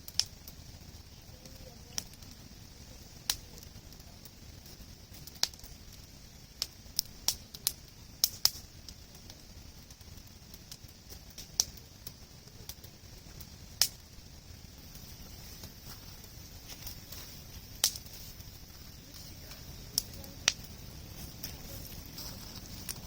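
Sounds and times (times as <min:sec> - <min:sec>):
campfire crackling: 0:00.0 - 0:23.0
sharp fire pops: 0:00.0 - 0:23.0
steady hiss: 0:00.0 - 0:23.0.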